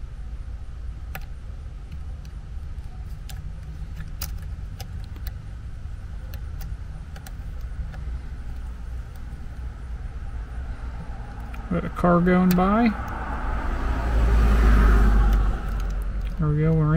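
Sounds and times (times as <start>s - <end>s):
low rumble: 0.0s - 16.9s.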